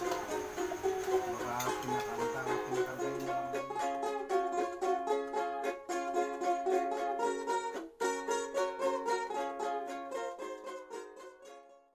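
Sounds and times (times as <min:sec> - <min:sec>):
lively plucked string tune: 0:00.0 - 0:11.9.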